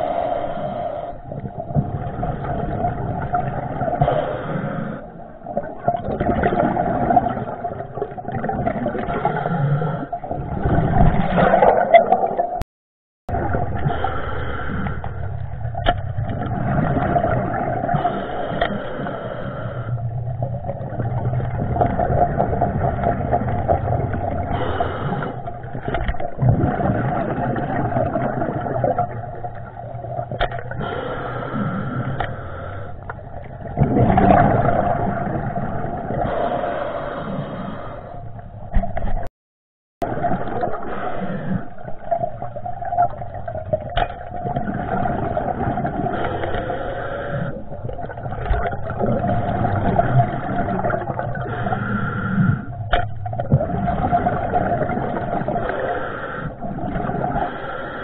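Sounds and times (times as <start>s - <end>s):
underwater rush of water: 0.0s - 12.6s, 13.3s - 39.3s, 40.0s - 58.0s.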